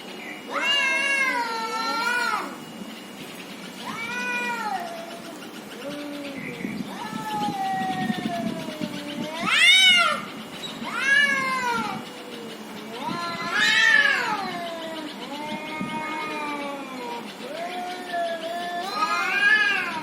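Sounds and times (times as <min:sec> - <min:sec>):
cats yowling in a fight: 0:00.4 - 0:02.8, 0:03.8 - 0:20.0.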